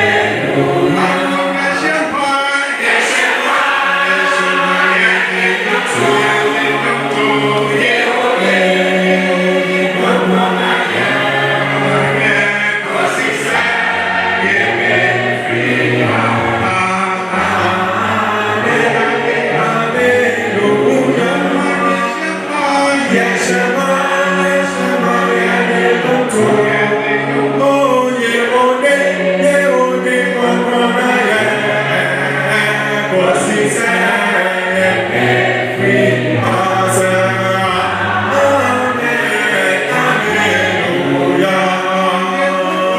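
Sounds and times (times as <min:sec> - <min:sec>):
choir singing a hymn: 0:00.0 - 0:42.9.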